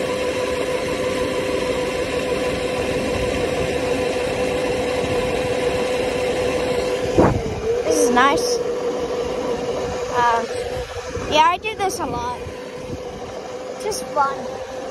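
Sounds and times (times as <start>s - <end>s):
dirt bike motor humming: 0.0s - 14.9s
wind and road noise: 0.0s - 14.9s.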